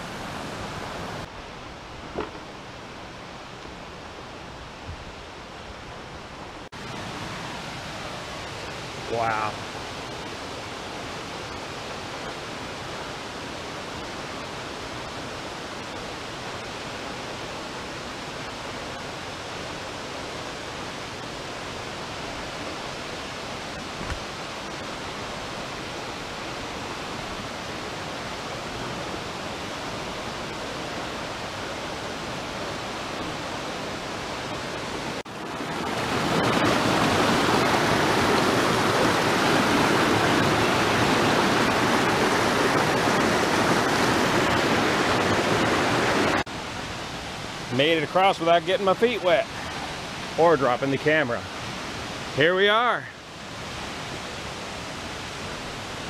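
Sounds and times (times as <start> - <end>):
waterfall rushing: 0.0 - 56.0
whitewater pouring between boulders: 6.7 - 56.0.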